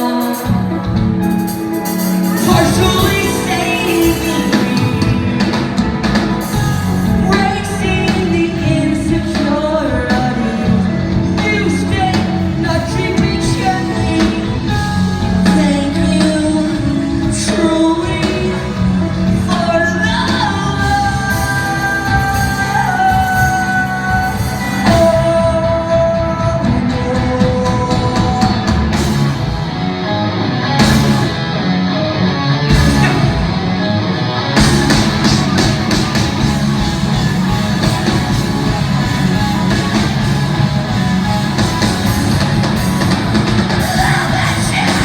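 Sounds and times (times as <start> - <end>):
lead vocalist singing: 0.0 - 29.7, 32.7 - 45.0
live rock band playing: 0.0 - 45.0.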